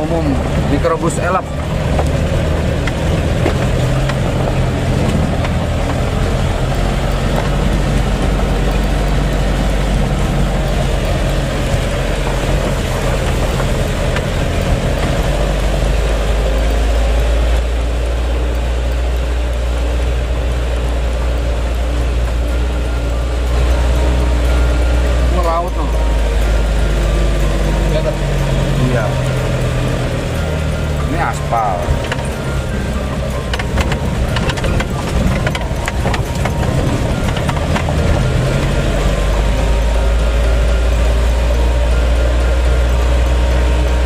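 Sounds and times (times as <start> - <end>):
diesel engine droning: 0.0 - 44.0
road noise: 0.0 - 44.0.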